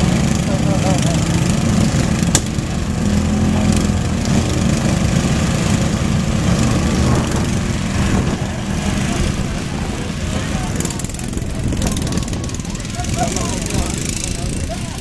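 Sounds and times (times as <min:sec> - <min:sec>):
small engines running: 0:00.0 - 0:15.0.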